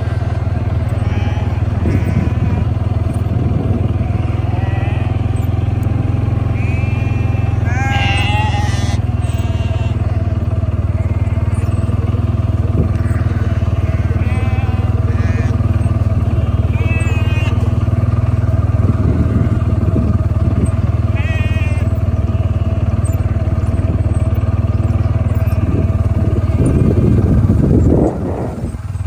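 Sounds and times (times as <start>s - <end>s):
sheep bleating: 0.0s - 27.4s
small engine running: 0.0s - 29.0s.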